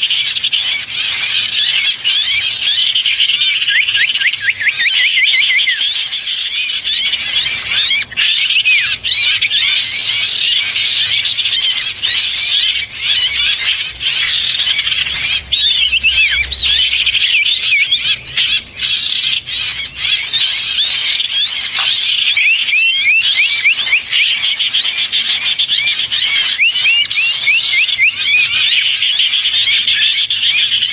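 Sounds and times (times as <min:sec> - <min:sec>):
songbirds chirping and twittering: 0:00.0 - 0:30.9.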